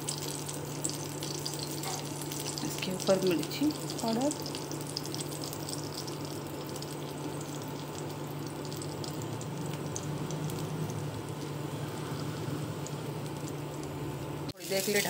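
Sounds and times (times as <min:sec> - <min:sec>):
low steady hum: 0:00.0 - 0:14.6
eggplant sizzling in oil: 0:00.0 - 0:15.0.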